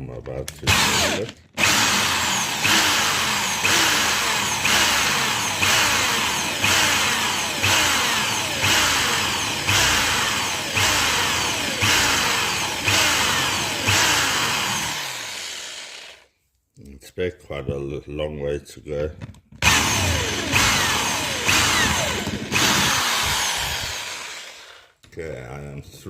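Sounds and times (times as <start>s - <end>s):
electric drill surging: 0.7s - 16.3s, 19.6s - 25.0s.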